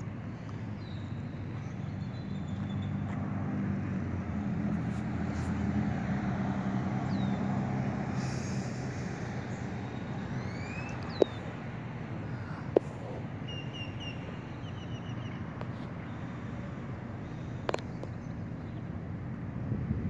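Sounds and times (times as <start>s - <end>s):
propeller airplane engine drone: 0.0s - 20.0s.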